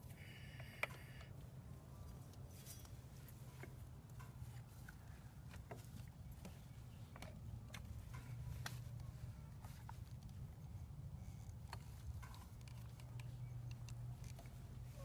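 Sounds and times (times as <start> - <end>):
steady low hum: 0.0 - 15.0
light clicks of metal parts handled: 2.0 - 10.6, 11.3 - 14.9.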